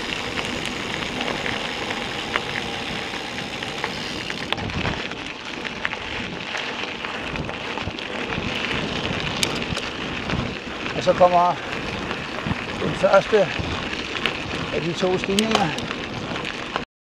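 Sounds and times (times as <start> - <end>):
bike tyres crunching on gravel: 0.0 - 16.8.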